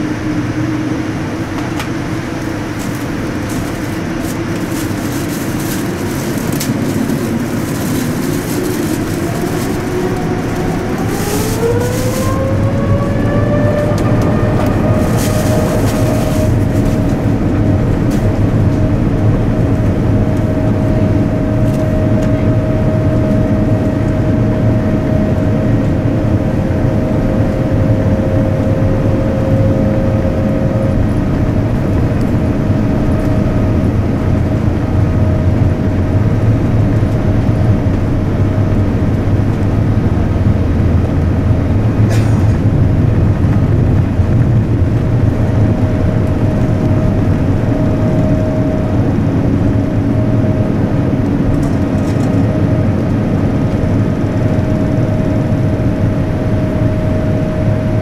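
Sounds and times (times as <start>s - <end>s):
aircraft cabin rumble: 0.0s - 58.0s
steady hum tone: 0.0s - 58.0s.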